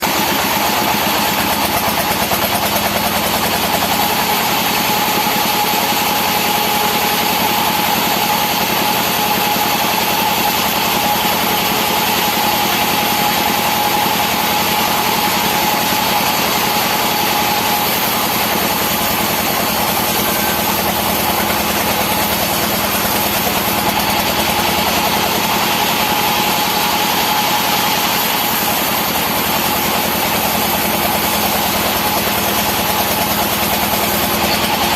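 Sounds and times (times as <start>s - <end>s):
engine-driven wood saw droning: 0.0s - 34.9s.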